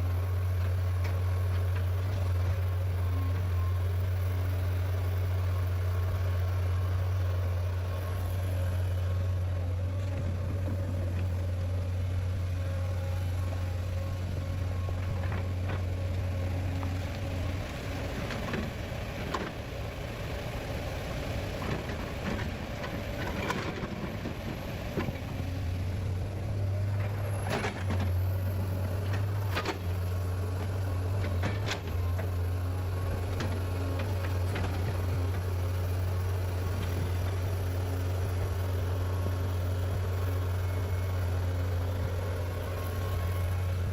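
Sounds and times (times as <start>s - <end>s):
heavy engine running: 0.0s - 43.9s.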